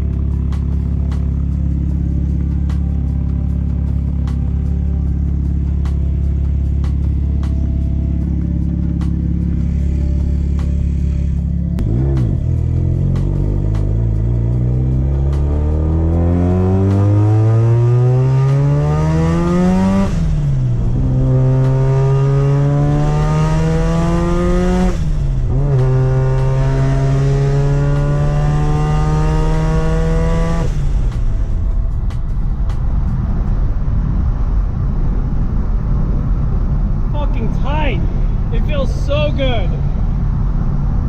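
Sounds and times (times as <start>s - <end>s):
rotary engine accelerating: 0.0s - 41.0s.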